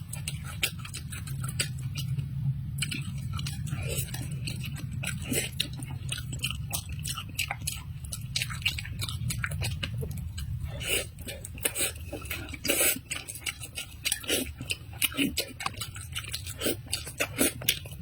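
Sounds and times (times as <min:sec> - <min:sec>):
close chewing and mouth clicks: 0:00.0 - 0:18.0
low steady hum: 0:00.0 - 0:18.0.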